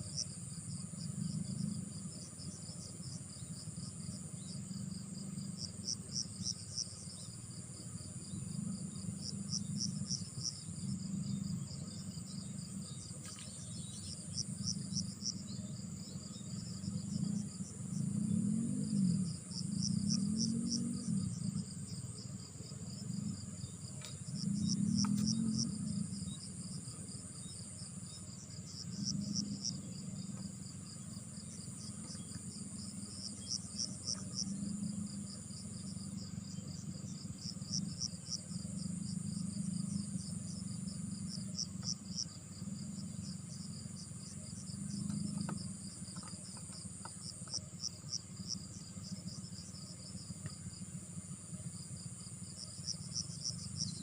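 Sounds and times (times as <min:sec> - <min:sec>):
high-pitched insect trill: 0:00.0 - 0:54.0
insects chirping in pulses: 0:00.0 - 0:54.0.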